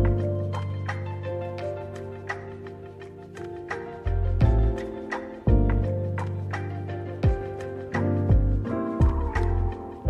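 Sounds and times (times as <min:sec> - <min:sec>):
mellow background music with beat: 0:00.0 - 0:10.0.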